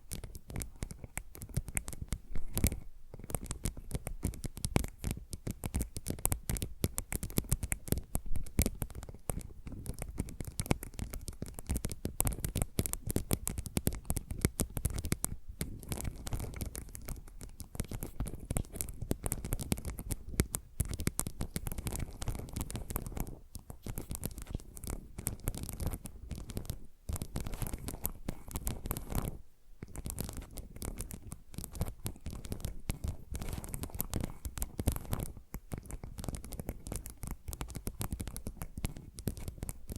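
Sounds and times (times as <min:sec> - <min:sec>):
fingernails scratching and tapping: 0:00.1 - 0:39.9.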